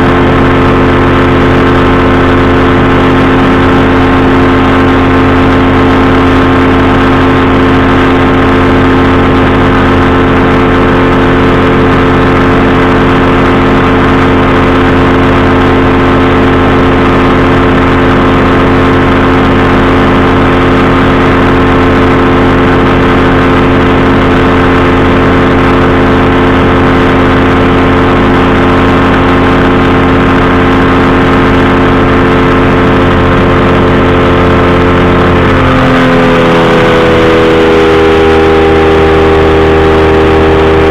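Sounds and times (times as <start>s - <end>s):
engine and propeller running: 0.0s - 40.9s.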